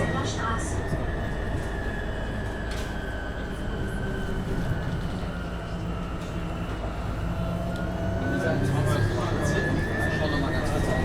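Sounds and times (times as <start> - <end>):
bus running rumble: 0.0 - 11.0.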